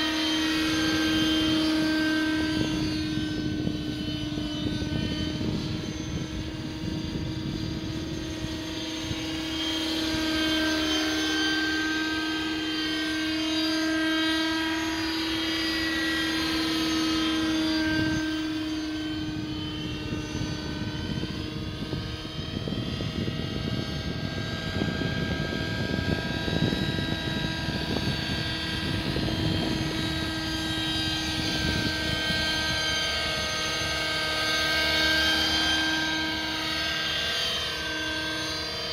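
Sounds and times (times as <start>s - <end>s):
model helicopter engine and rotors: 0.0s - 38.9s.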